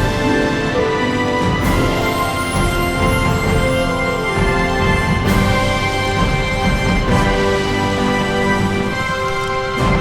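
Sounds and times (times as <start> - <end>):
theme-style music: 0.0 - 10.0.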